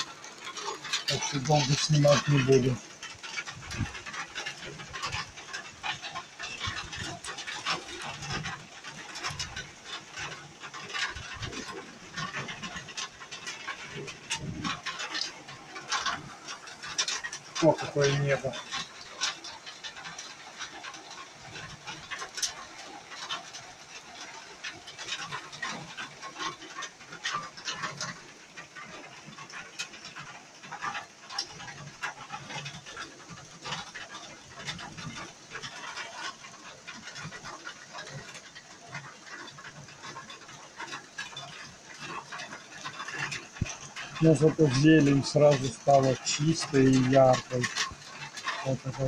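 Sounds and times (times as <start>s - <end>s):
heavy rain falling: 0.0s - 49.0s
raindrops tapping window: 0.0s - 49.0s.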